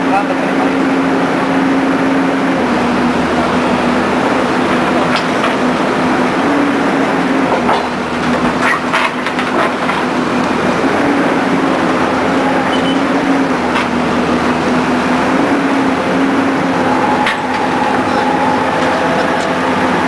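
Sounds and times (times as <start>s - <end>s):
drilling rig engine hum: 0.0s - 20.0s.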